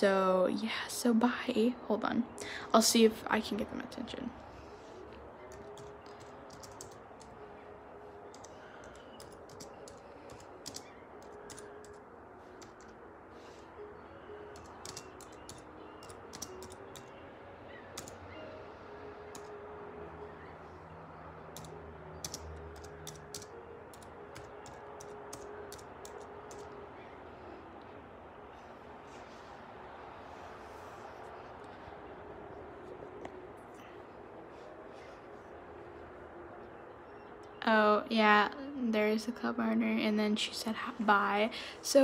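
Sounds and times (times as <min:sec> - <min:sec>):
faint music: 0:00.0 - 0:42.0.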